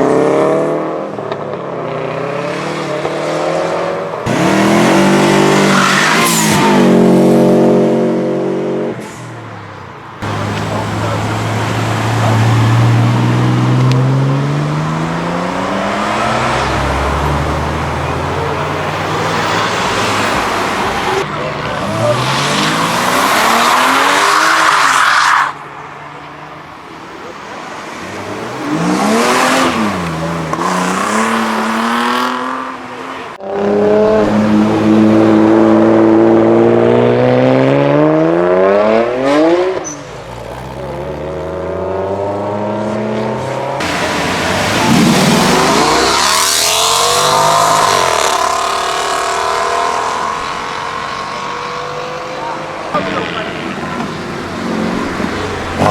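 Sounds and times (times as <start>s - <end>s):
cars accelerating hard: 0.0s - 55.9s.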